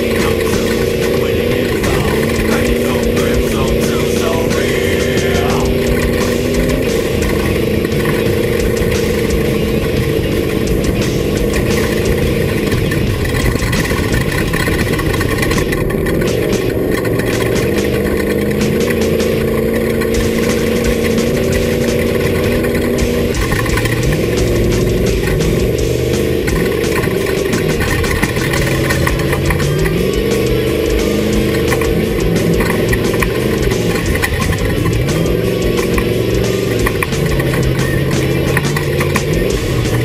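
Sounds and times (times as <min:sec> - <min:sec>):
race vehicle engine running: 0:00.0 - 0:40.0
rush of driving noise: 0:00.0 - 0:40.0.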